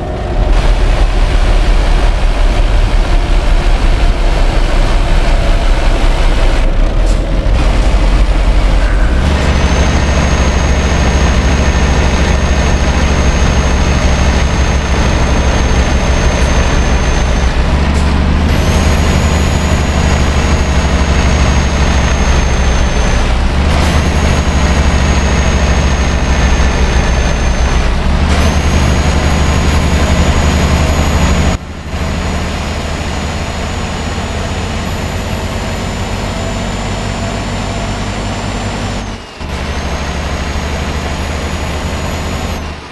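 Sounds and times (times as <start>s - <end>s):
high engine whine: 0.0s - 42.9s
truck diesel engine drone: 0.0s - 42.9s.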